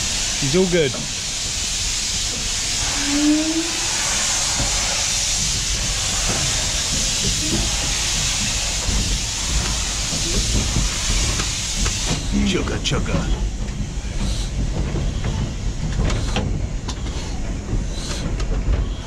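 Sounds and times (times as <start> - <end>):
steam locomotive hissing and rumbling: 0.0 - 19.0.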